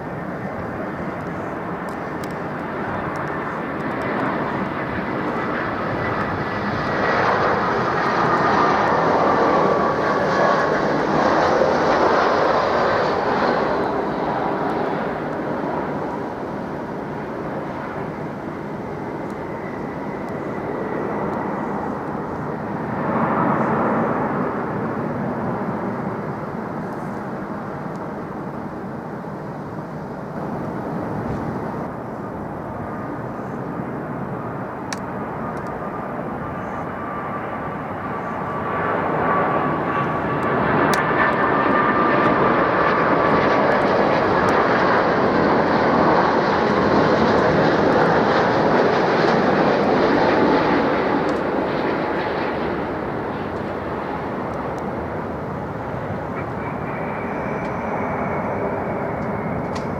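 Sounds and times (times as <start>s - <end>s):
jet airliner passing low: 0.0s - 59.9s.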